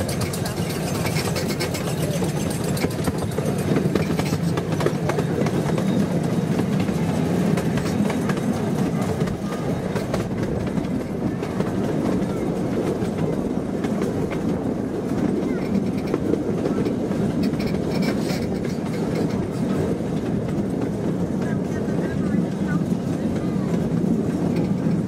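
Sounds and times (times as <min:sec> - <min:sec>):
sharp rail clicks: 0:00.0 - 0:25.0
train wheels rumbling on rails: 0:00.0 - 0:25.0.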